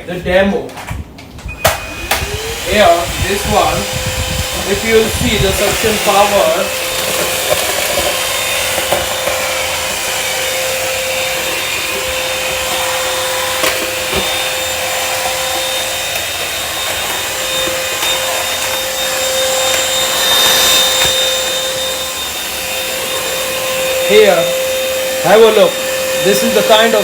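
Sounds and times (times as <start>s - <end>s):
cordless vacuum cleaner running: 1.4s - 27.0s.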